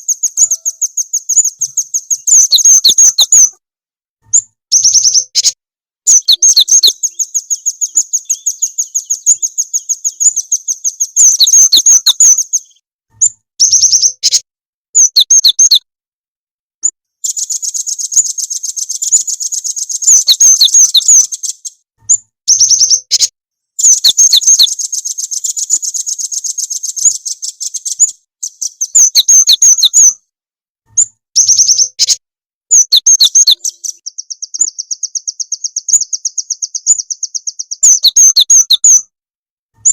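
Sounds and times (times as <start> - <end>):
recorded songbird chirps: 0.0 - 3.6, 4.2 - 15.9, 16.8 - 30.3, 30.9 - 39.2.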